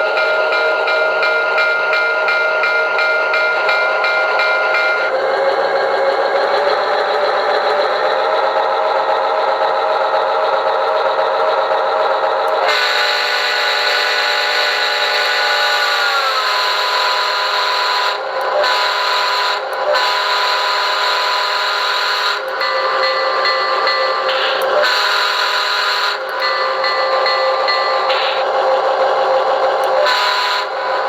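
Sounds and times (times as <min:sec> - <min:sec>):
diesel locomotive engine running: 0:00.0 - 0:31.0.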